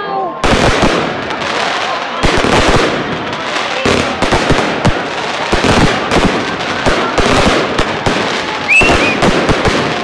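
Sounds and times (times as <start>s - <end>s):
fireworks crackling: 0.0s - 10.0s
fireworks bangs: 0.1s - 10.0s.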